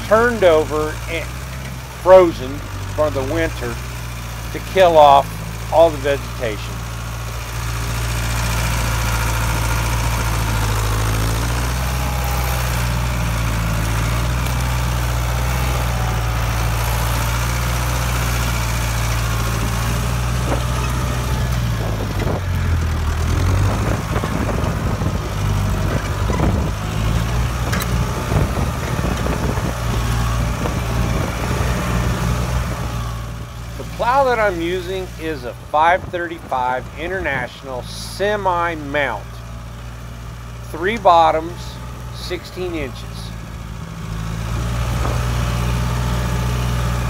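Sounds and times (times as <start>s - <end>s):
engine knocks and rattles: 0.0s - 47.0s
tractor diesel engine running: 0.0s - 47.0s.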